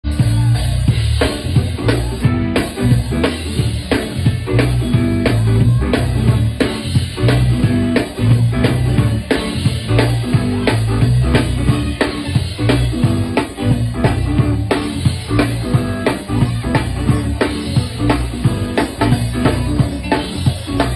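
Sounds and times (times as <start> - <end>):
band playing instrumental groove: 0.0 - 20.9
drum kit beat: 0.0 - 20.9
low bass line: 0.0 - 20.9.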